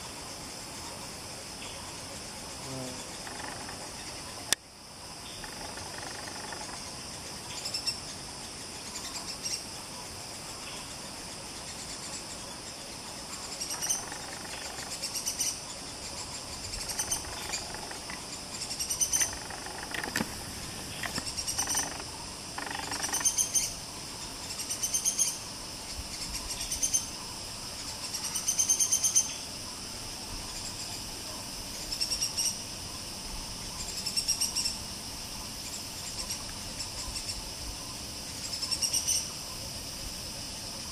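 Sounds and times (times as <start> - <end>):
insects humming: 0.0 - 40.9.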